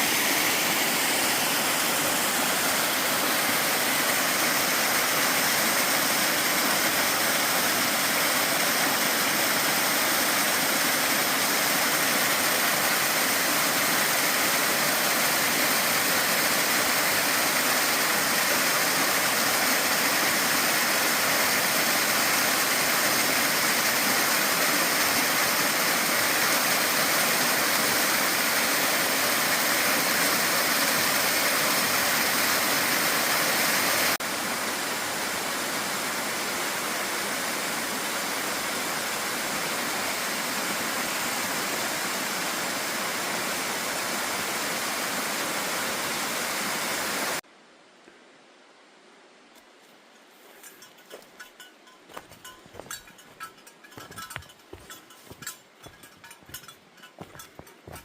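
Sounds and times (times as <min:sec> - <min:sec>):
waterfall roaring: 0:00.0 - 0:47.4, 0:50.7 - 0:58.0.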